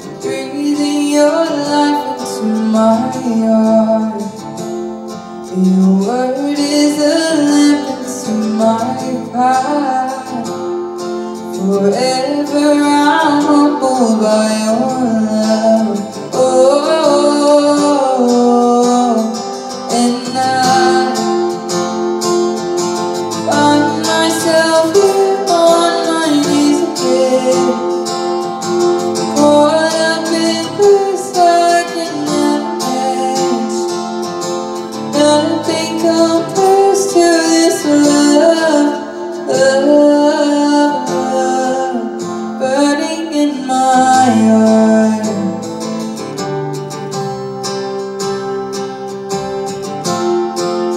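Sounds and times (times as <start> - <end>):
woman singing: 0.0 - 22.1, 23.3 - 34.2, 34.9 - 45.8
strummed acoustic guitar: 0.0 - 50.9.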